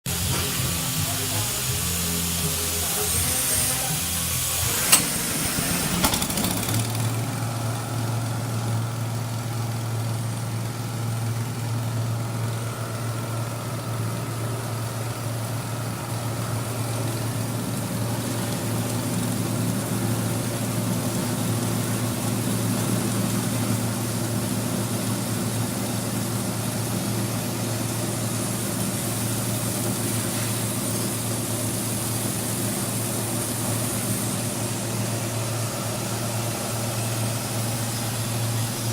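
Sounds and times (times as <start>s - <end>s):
pulping machine motor humming: 0.1s - 38.9s.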